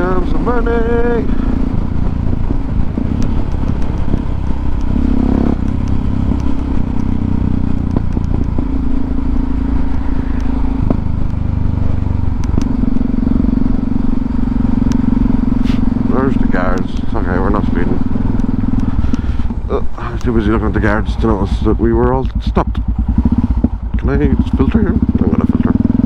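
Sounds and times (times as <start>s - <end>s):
microphone wire ticking on helmet: 0.0s - 13.7s, 14.7s - 26.0s
wind rush: 0.0s - 25.0s
motorcycle engine: 0.0s - 26.0s.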